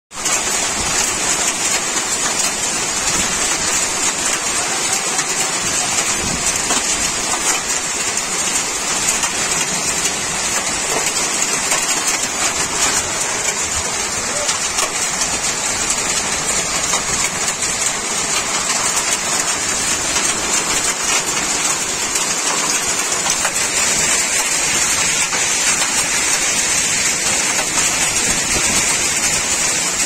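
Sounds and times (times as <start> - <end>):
heavy rain: 0.1 - 30.0.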